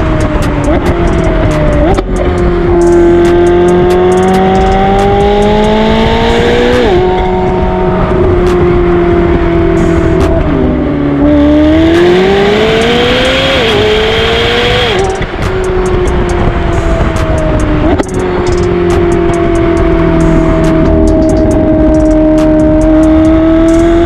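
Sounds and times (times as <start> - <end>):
sports car engine accelerating: 0.0 - 24.0.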